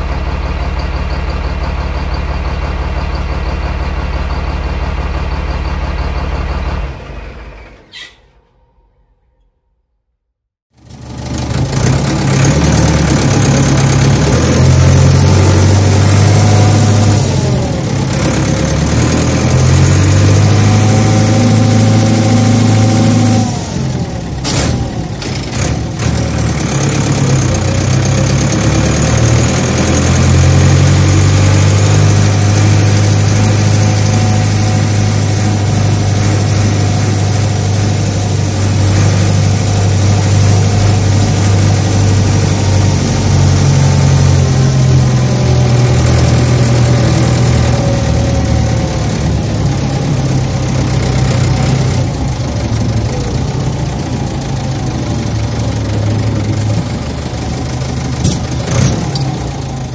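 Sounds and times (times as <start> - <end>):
diesel engine running under load: 0.0 - 8.9, 10.7 - 59.9.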